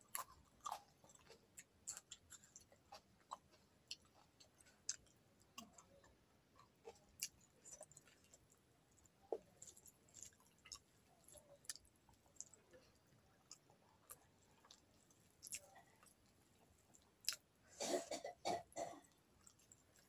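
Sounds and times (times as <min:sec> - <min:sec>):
person chewing food: 0:00.0 - 0:17.5, 0:19.0 - 0:20.0.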